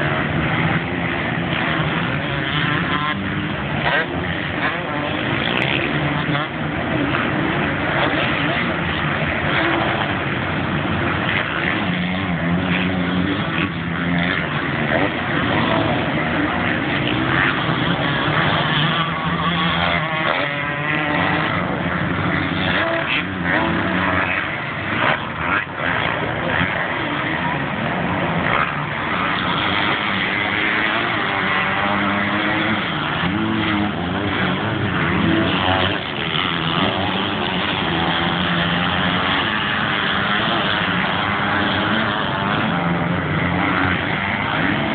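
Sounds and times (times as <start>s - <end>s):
motocross bike engines revving: 0.0s - 44.9s.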